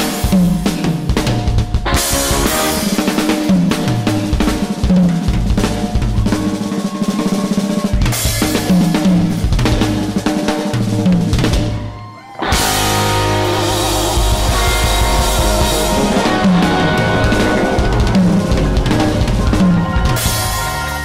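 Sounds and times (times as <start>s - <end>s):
drum kit: 0.0s - 21.0s
live rock band playing: 0.0s - 21.0s.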